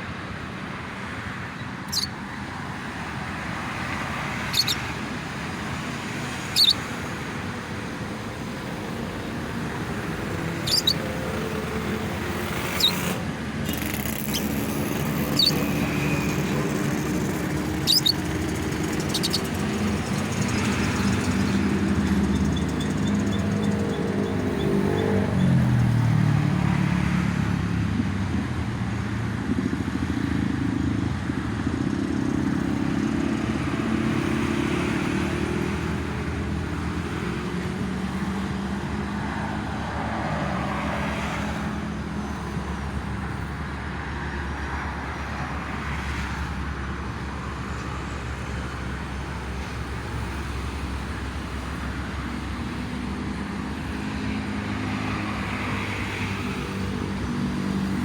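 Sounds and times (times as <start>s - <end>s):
passing cars and motorcycles: 0.0s - 58.0s.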